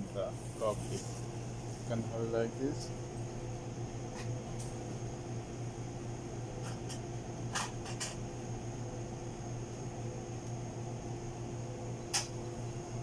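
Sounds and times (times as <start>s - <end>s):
electrical hum of equipment: 0.0s - 13.0s.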